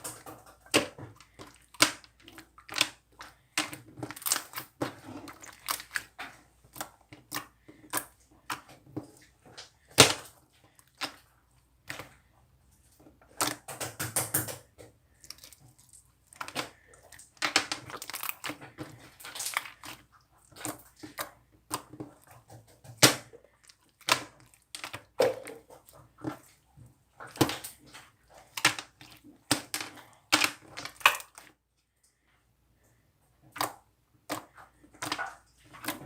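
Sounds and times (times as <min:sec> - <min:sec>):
crinkling and crunching: 0:00.0 - 0:36.0.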